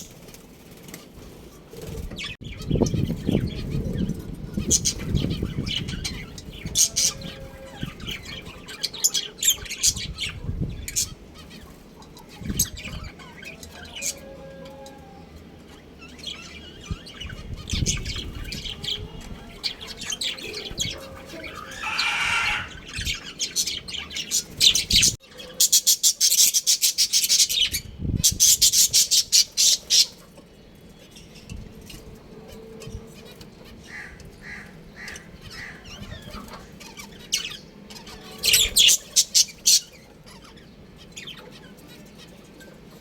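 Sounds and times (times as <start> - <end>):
budgerigars chirping and chattering: 0.0 - 14.4, 15.7 - 43.0.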